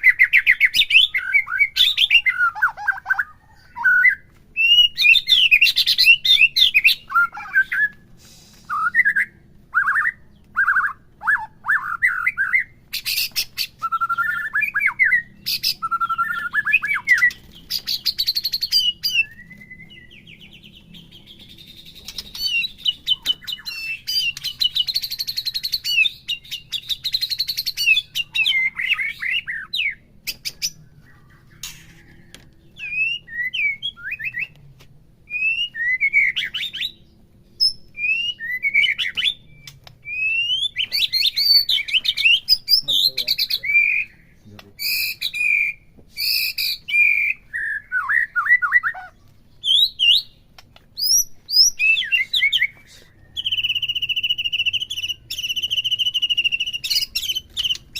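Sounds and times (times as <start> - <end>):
songbird singing whistled phrases: 0.0 - 34.6, 35.2 - 50.4, 51.0 - 57.9.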